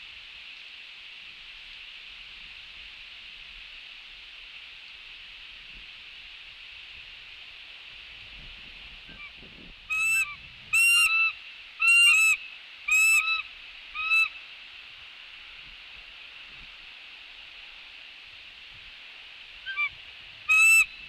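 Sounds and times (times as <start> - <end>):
wind hiss: 0.0 - 21.0.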